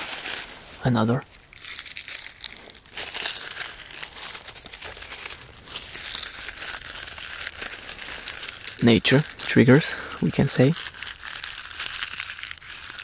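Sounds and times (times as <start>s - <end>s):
dry leaf litter crackling: 0.0s - 13.0s.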